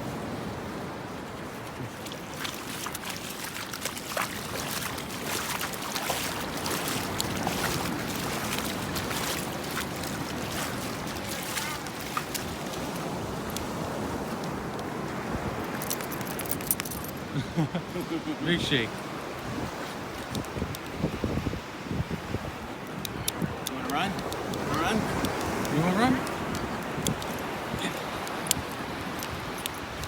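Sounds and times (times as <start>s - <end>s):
ocean surf: 0.0s - 15.8s, 17.2s - 30.0s
wind: 0.0s - 30.0s.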